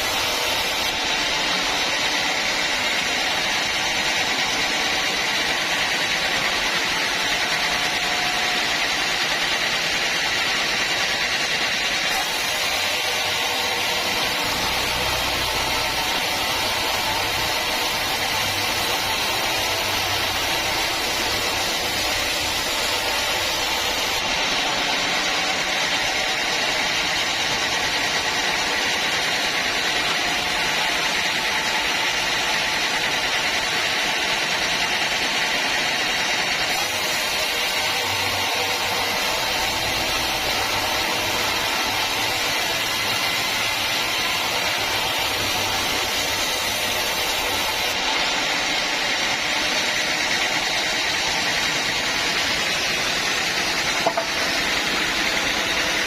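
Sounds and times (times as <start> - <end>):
sawmill machinery high-pitched noise: 0.0 - 56.0.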